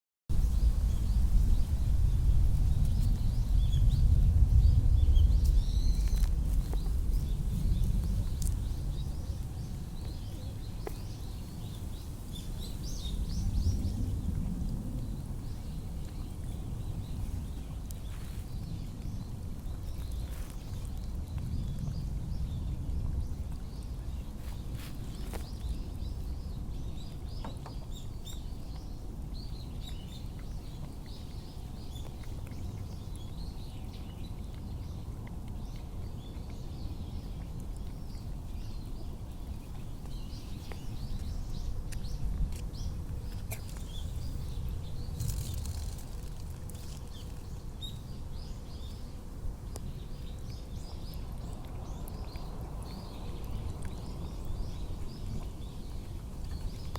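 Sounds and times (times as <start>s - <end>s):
low outdoor rumble: 0.3s - 56.9s
small birds chirping: 0.3s - 56.9s.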